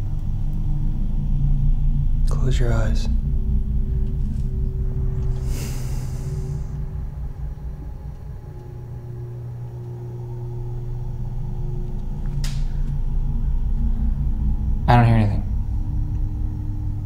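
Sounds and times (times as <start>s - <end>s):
low rumbling drone: 0.0s - 17.0s.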